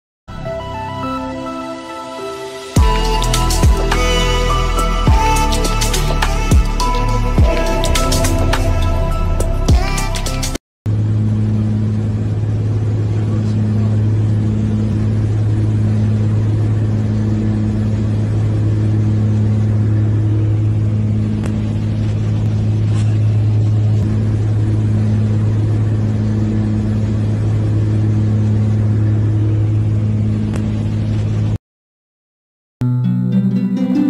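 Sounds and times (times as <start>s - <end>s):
propeller aircraft engine droning: 0.3s - 31.6s.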